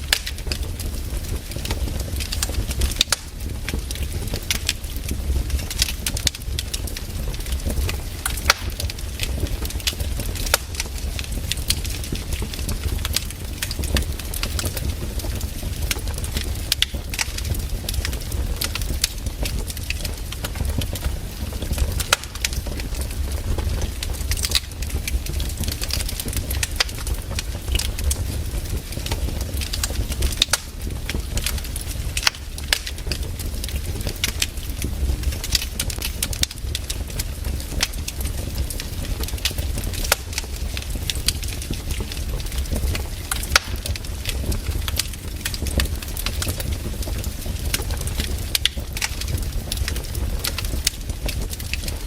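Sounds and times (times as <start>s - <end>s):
firewood crackling: 0.0s - 52.0s.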